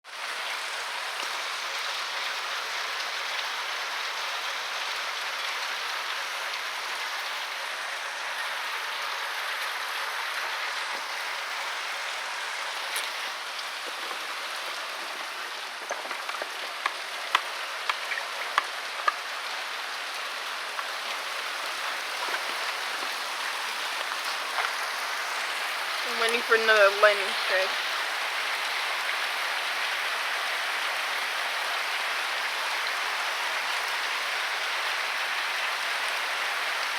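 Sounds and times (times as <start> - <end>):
heavy rain falling: 0.1 - 36.9.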